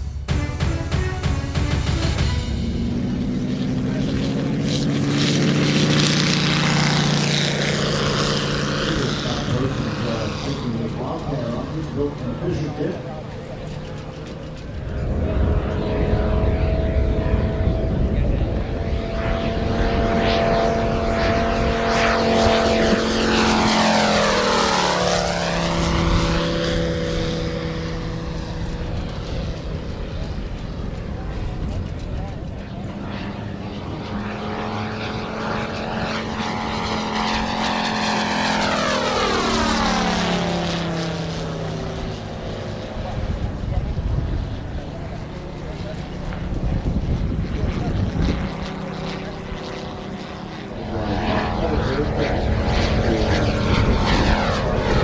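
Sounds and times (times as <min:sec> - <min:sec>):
model plane engine drone: 0:00.0 - 0:55.0.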